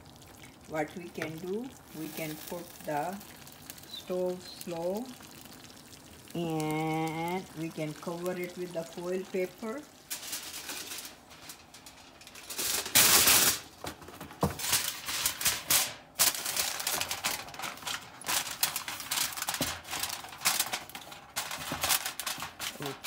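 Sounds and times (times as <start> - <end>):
aluminium foil crinkling: 0.1 - 23.0.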